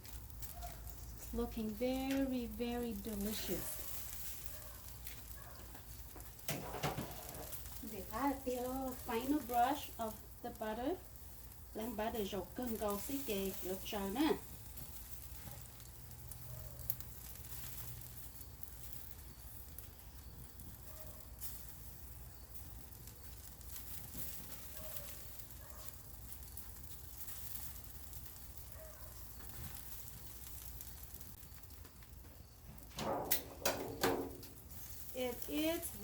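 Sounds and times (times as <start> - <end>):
chicken wings sizzling: 0.0 - 36.0.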